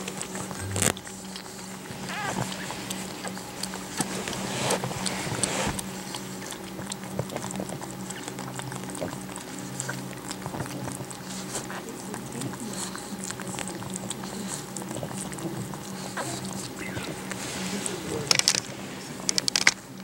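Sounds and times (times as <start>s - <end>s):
dog licking wet clicks: 0.0s - 20.0s
steady low hum: 0.0s - 20.0s.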